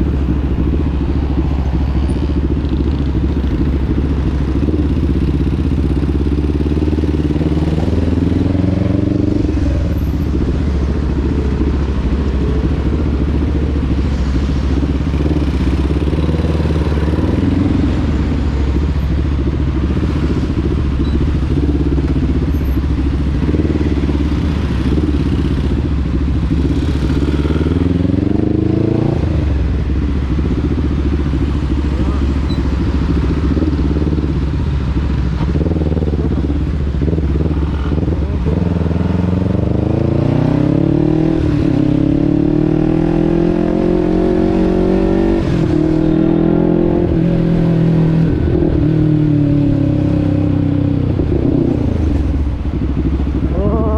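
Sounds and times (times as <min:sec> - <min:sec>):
motorcycle engine revving: 0:02.1 - 0:53.9.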